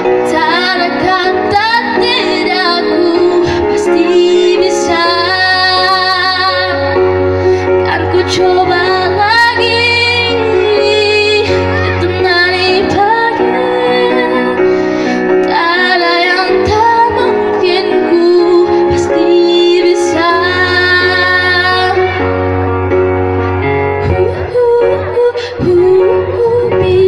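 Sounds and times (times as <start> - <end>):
girl singing into microphone: 0.0 - 27.0
instrumental accompaniment: 0.0 - 27.0.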